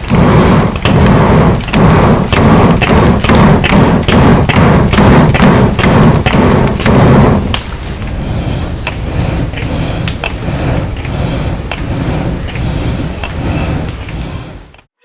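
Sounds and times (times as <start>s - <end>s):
air pump rushing air: 0.0s - 14.9s.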